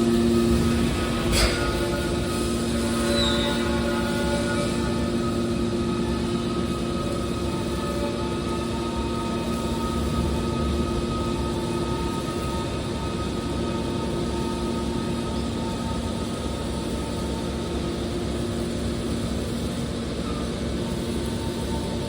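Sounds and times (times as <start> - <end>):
baler machine drone: 0.0 - 22.0
motor and pump whine: 0.0 - 22.0.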